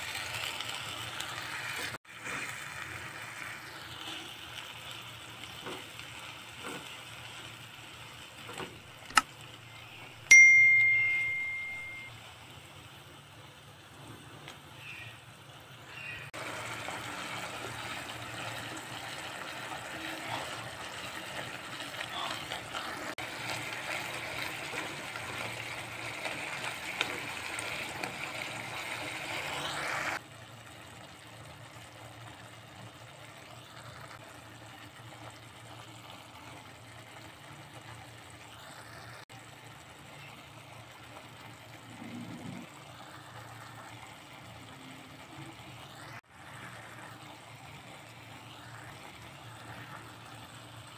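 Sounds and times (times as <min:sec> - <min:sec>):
masala sizzling and bubbling: 0:00.0 - 0:50.9.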